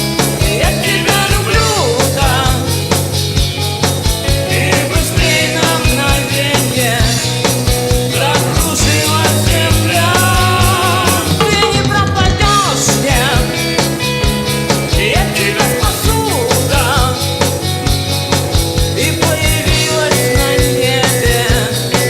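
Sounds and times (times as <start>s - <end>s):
band with drum beat and bass: 0.0s - 22.0s
person singing with vibrato: 0.2s - 2.9s, 4.3s - 14.0s, 14.7s - 17.4s, 18.9s - 22.0s.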